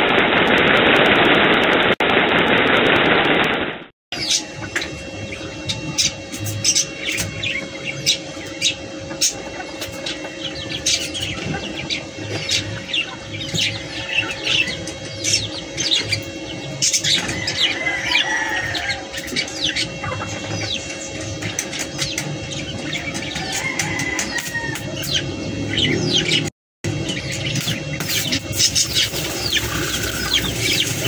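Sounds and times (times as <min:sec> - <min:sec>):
low hum: 0:00.0 - 0:23.5, 0:24.8 - 0:31.0
small birds chirping: 0:04.2 - 0:31.0.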